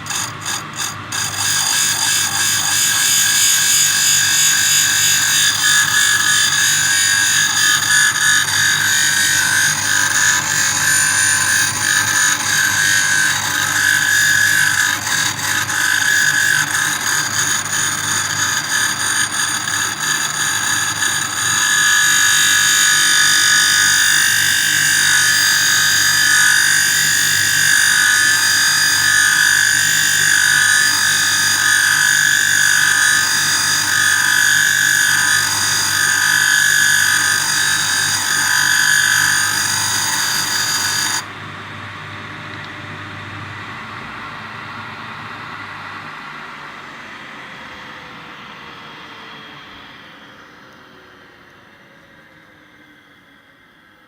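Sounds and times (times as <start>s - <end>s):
grinding machine whine: 0.0s - 54.0s.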